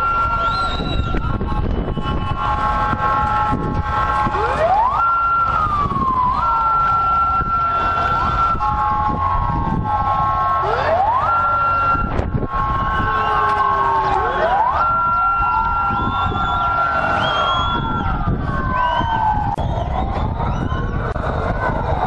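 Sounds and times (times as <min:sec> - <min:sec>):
police siren wailing: 0:00.0 - 0:22.0
street noise: 0:00.0 - 0:22.0.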